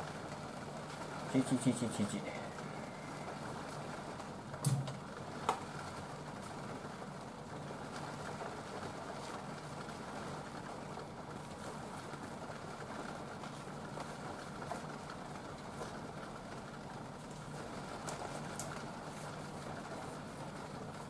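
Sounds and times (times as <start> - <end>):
kitchen hum and hiss: 0.0 - 21.0.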